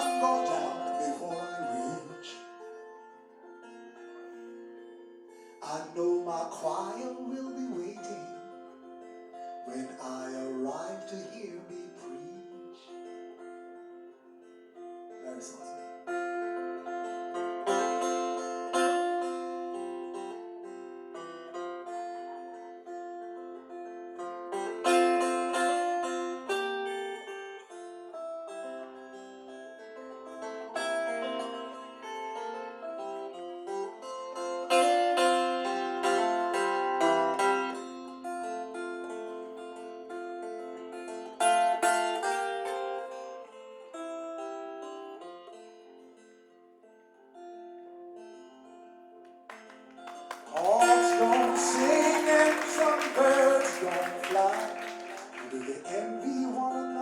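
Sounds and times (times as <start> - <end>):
guitar solo: 0.0 - 6.4, 7.2 - 57.0.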